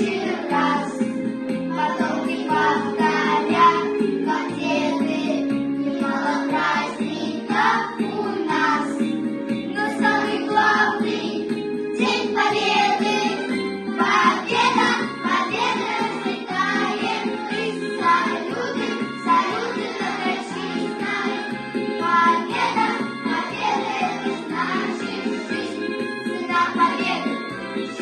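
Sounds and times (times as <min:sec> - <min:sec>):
children's choir singing: 0:00.0 - 0:28.0
instrumental accompaniment: 0:00.0 - 0:28.0.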